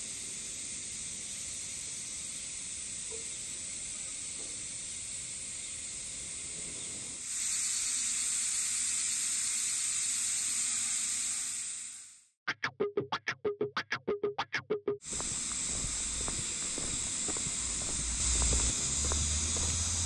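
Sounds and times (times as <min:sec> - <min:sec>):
distant cicadas droning: 0:00.0 - 0:12.1, 0:15.1 - 0:20.0.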